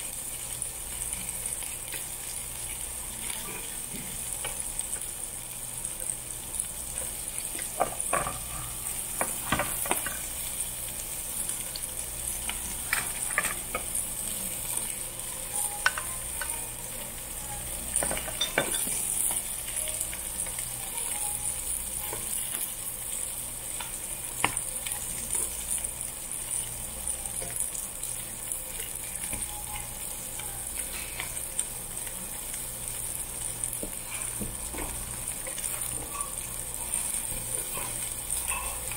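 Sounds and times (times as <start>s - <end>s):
meat sizzling on grill: 0.0s - 38.9s.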